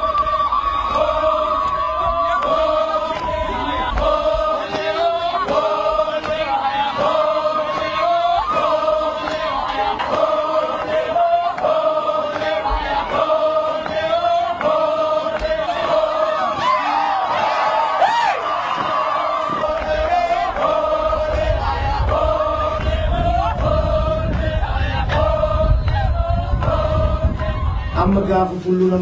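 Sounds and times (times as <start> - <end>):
group singing chant: 0.0 - 28.2.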